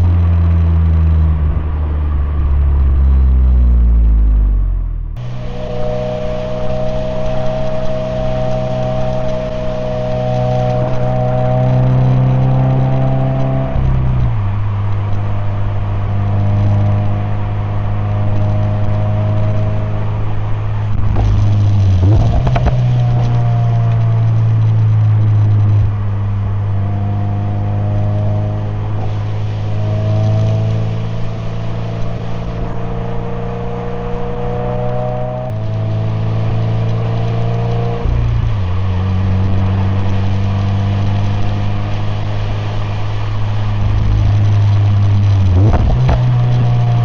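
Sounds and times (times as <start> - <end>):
car engine and exhaust running: 0.0 - 47.0.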